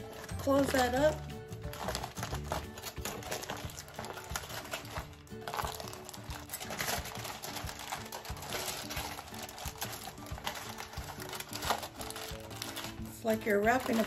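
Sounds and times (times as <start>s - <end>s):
aluminium foil crinkling: 0.0s - 14.0s
quiet background music: 0.0s - 14.0s.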